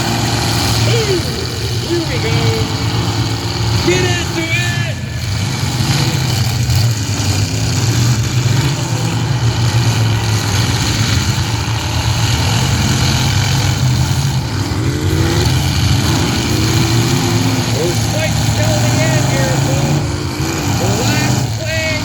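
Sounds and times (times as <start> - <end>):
car engines running loud: 0.0 - 22.0
engine revving: 0.0 - 22.0.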